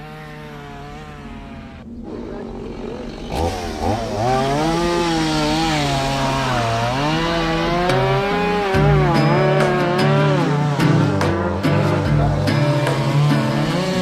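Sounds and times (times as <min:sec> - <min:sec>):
engine running at varying speed: 0:00.0 - 0:14.0.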